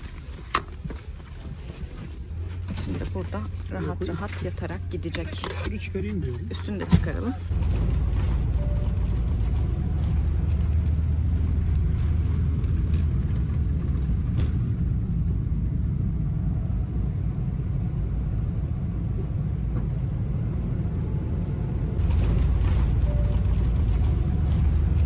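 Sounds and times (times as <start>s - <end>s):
airliner cabin engine drone: 0.0s - 25.0s.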